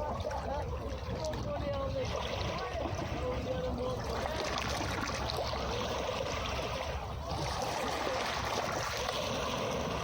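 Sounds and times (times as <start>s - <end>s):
sea waves washing on beach: 0.0s - 10.0s.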